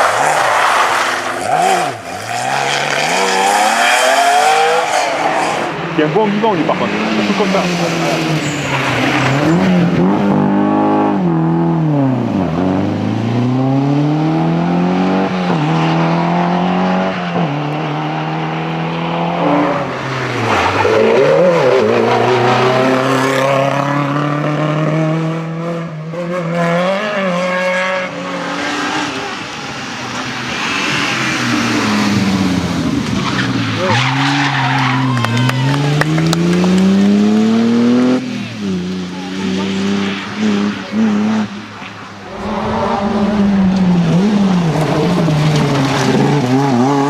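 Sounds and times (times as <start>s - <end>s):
rally car engine revving: 0.0s - 47.0s.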